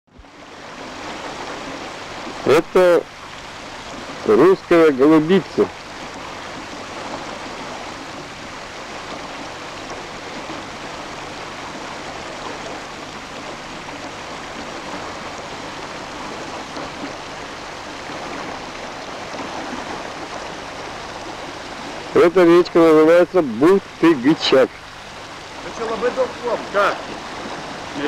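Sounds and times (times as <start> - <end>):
river water rushing: 0.1 - 28.0.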